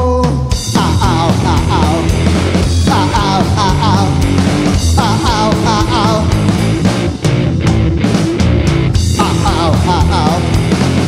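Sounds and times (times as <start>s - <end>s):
live rock band playing: 0.0s - 11.0s
wavering lead guitar line: 0.0s - 11.0s.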